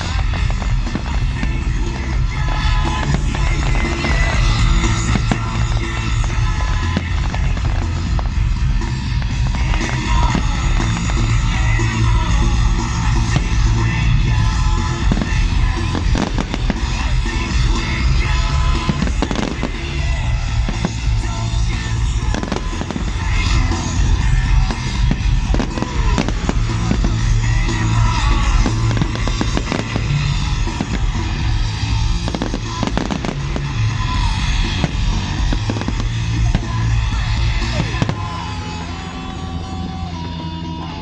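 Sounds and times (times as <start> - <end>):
loud music with heavy bass: 0.0 - 41.0.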